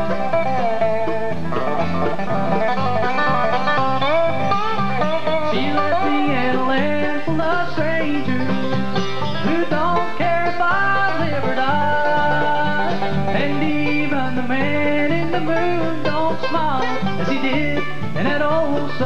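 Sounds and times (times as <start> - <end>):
plucked acoustic string lead: 0.0 - 19.0
plucked bass: 0.0 - 19.0
rhythm guitar: 0.0 - 19.0.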